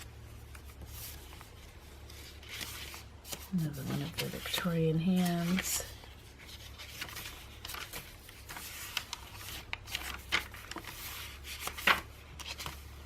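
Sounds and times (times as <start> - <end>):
low steady hum: 0.0 - 13.0
paper pages rustling: 0.0 - 13.0.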